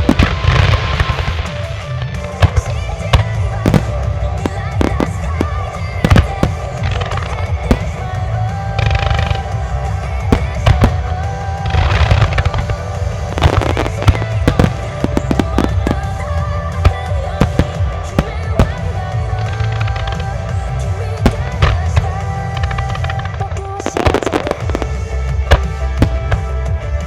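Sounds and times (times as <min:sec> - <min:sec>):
fireworks bursting and crackling: 0:00.0 - 0:27.0
heavy booming: 0:00.0 - 0:27.0
music: 0:00.0 - 0:27.0.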